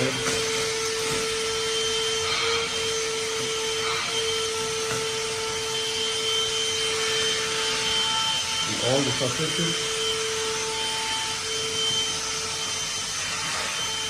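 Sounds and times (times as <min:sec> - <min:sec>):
handheld vacuum running: 0:00.0 - 0:14.0.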